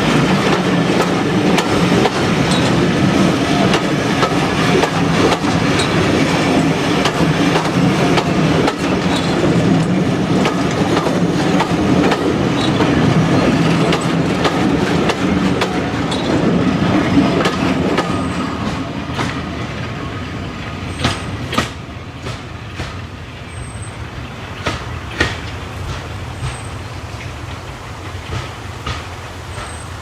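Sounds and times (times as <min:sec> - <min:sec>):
diesel locomotive engine: 0:00.0 - 0:30.0
train wheels clicking over rail joints: 0:00.0 - 0:30.0.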